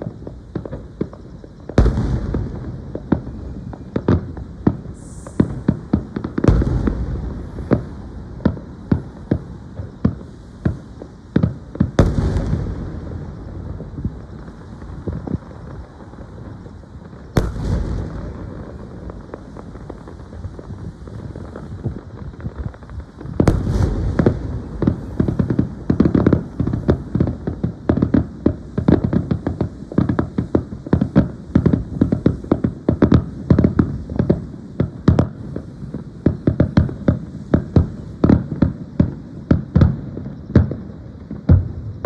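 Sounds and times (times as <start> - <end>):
fireworks booming: 0.0 - 42.0.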